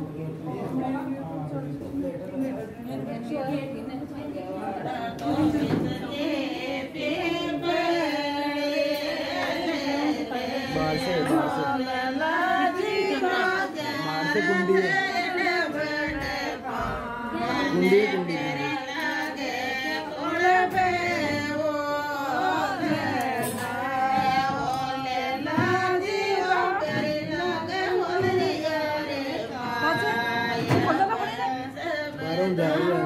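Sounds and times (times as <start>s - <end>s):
women singing in chorus: 3.4s - 33.0s.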